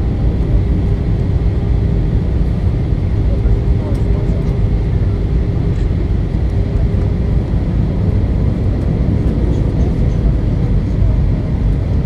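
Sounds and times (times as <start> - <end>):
low rumble of engines and airflow: 0.0 - 12.0.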